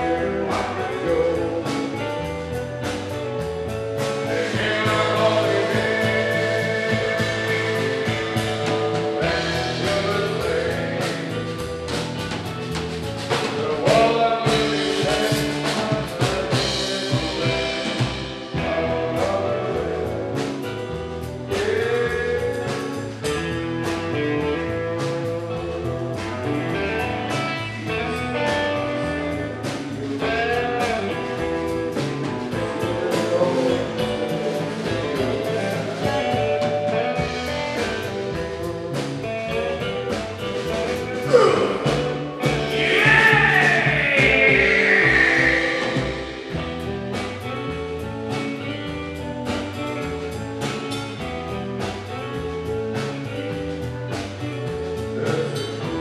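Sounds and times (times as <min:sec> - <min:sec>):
male singer: 0:00.0 - 0:03.0, 0:04.0 - 0:12.2, 0:13.3 - 0:46.8, 0:55.0 - 0:56.0
drum kit: 0:00.0 - 0:56.0
electric guitar: 0:00.0 - 0:56.0.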